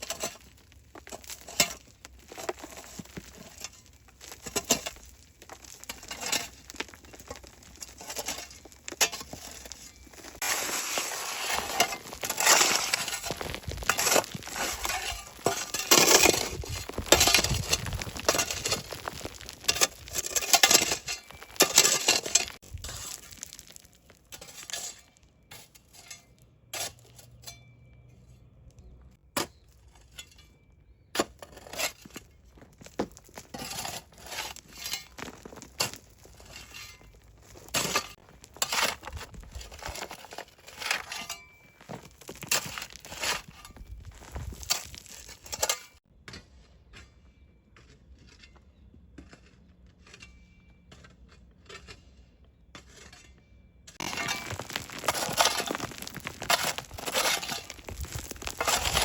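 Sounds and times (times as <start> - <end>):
crunching and scraping strokes: 0.0 - 59.0.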